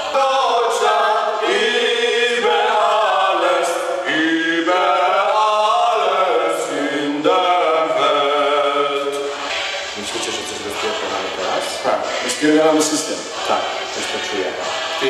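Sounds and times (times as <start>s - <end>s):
choir singing long held notes: 0.0s - 15.0s.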